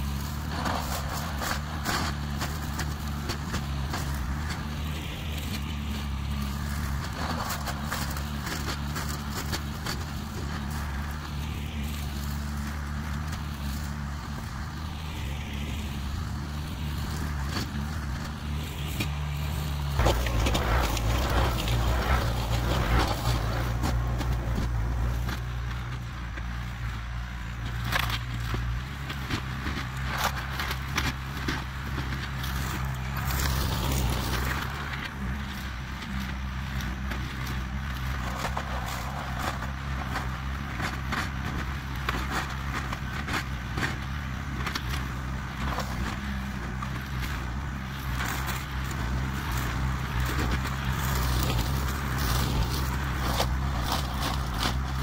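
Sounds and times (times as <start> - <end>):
tractor engine running: 0.0 - 55.0
brush cutter crackling and snapping: 0.5 - 15.1, 15.7 - 55.0.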